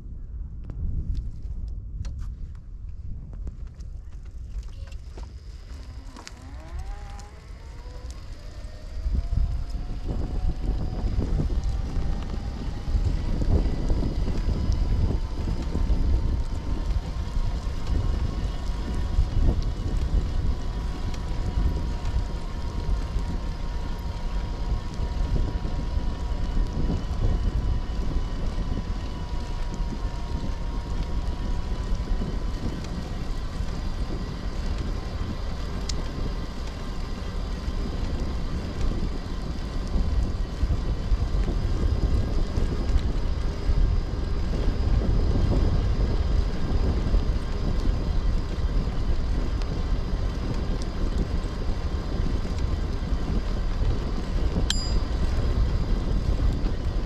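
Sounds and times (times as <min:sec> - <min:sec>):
faint steady whine: 0:00.0 - 0:57.0
wind rumbling on microphone: 0:00.0 - 0:57.0.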